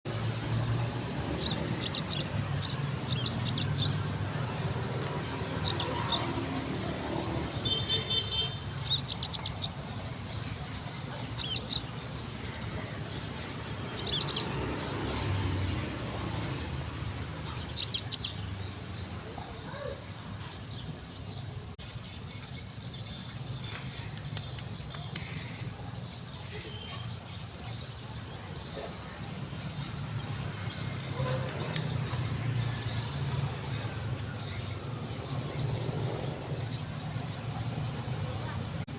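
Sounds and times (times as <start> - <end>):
small birds chirping: 0.1 - 38.9.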